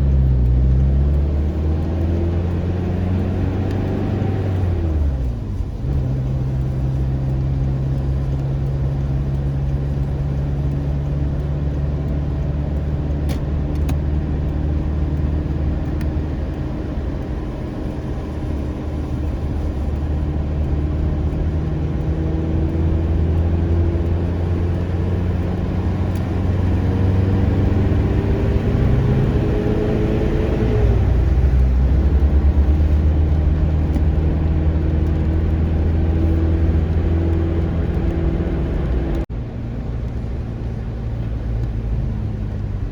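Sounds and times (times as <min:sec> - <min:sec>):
car engine hum: 0:00.0 - 0:42.9
road noise: 0:00.0 - 0:42.9.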